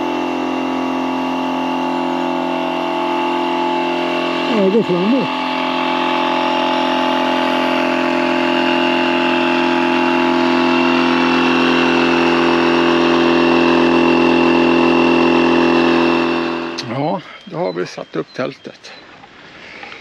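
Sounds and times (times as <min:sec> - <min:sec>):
electric air pump motor hum: 0:00.0 - 0:20.0.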